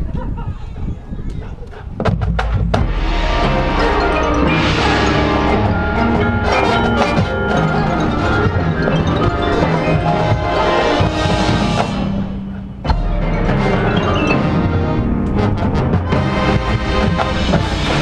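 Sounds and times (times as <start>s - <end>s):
marching band playing: 2.4s - 18.0s
mallet percussion: 2.8s - 18.0s.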